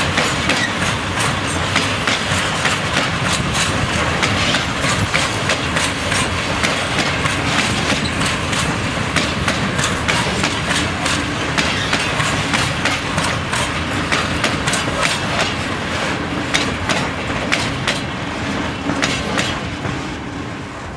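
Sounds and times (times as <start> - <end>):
train wheels clicking over rail joints: 0.0 - 20.2
train wagons rumbling: 0.0 - 20.9.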